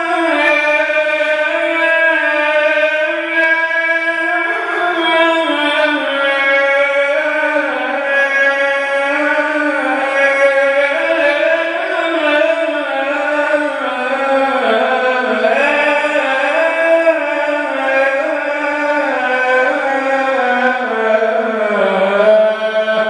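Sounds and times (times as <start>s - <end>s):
man chanting call to prayer: 0.0s - 23.0s.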